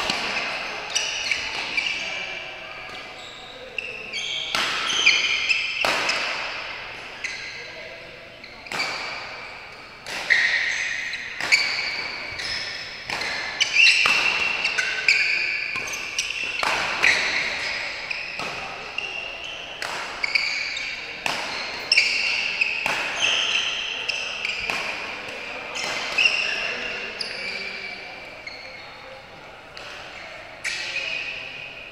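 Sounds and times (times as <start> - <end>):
rackets hitting shuttlecock: 0.0 - 3.1, 3.9 - 7.7, 8.6 - 28.3, 29.6 - 31.6
sneakers squeaking on court floor: 0.0 - 31.9.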